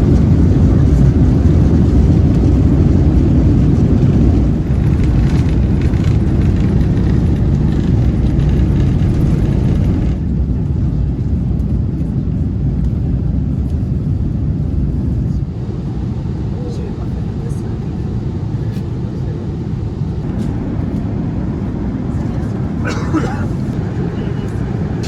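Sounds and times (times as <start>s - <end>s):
airplane engines rumbling in cabin: 0.0s - 25.0s.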